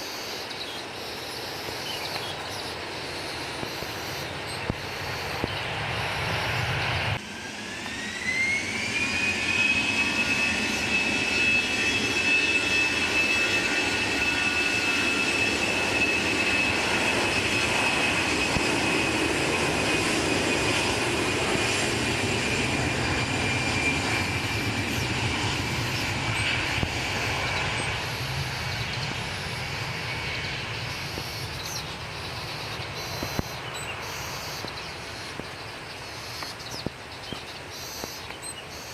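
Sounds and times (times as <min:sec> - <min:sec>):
jet engines spooling up: 0:02.4 - 0:36.9.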